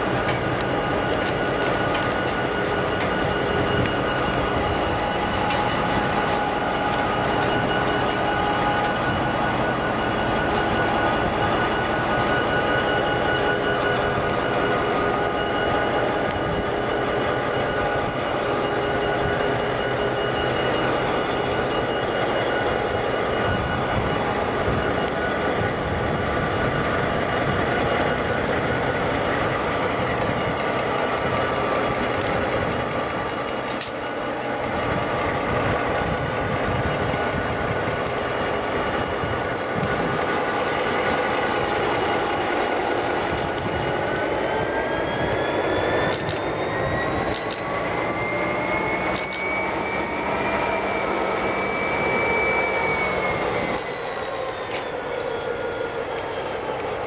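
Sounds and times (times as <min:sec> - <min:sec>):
diesel locomotive engine droning: 0:00.0 - 0:57.0
high whine: 0:00.0 - 0:57.0
wheels rumbling and clicking on rail: 0:00.0 - 0:57.0.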